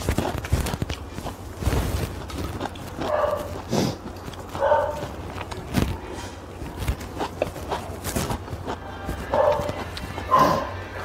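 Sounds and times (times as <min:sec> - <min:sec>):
chewing and mouth smacks: 0:00.0 - 0:11.0
slurping noodles and soup: 0:00.0 - 0:11.0.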